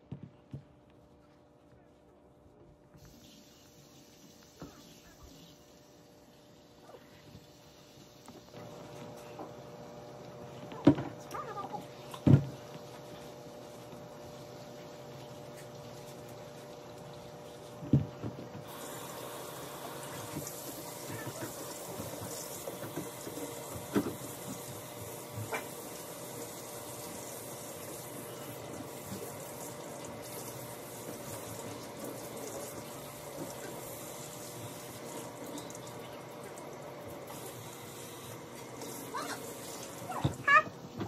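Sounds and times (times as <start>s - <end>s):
faucet sprayer water spraying: 3.0s - 6.8s, 10.2s - 40.9s.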